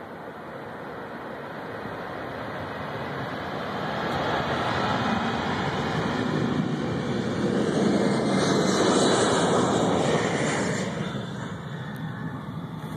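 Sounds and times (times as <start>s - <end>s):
jet airliner taking off: 0.0s - 12.9s.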